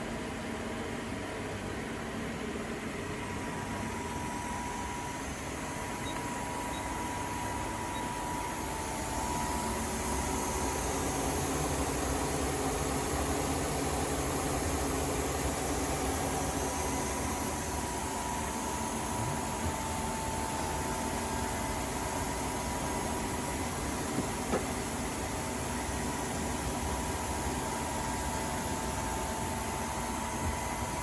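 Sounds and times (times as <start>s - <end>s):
grinder machine hum with whine: 0.0s - 31.0s.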